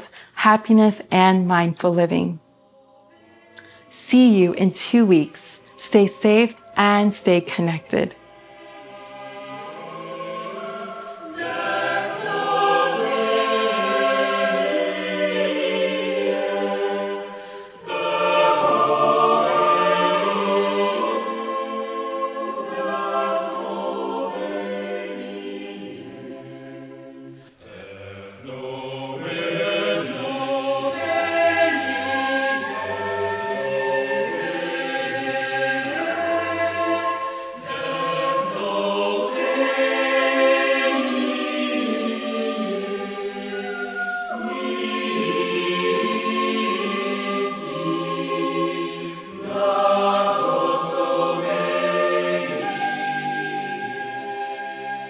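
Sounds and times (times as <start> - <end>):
choir singing sustained chords: 0.0 - 0.4, 1.9 - 55.0.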